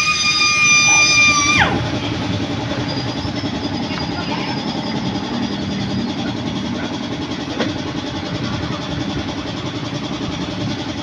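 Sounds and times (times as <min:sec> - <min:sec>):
motorcycle engine idling: 0:00.9 - 0:11.0.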